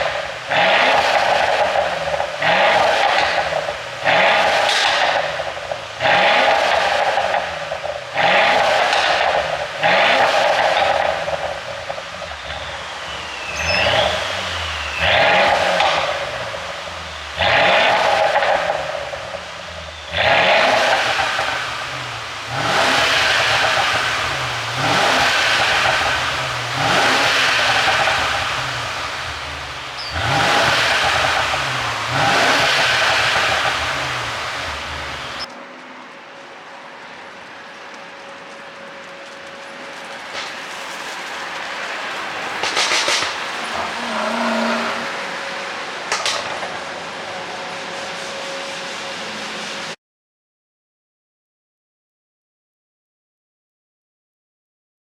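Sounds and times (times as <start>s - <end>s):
car engine revving with exhaust pops: 0.0s - 48.3s.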